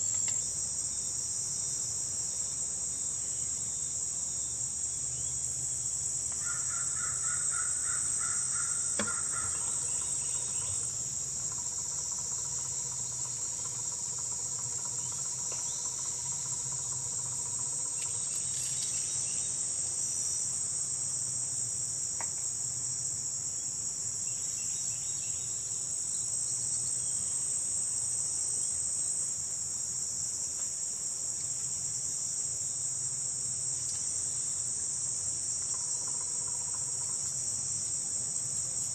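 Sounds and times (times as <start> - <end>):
crickets and insects chirping: 0.0 - 38.9.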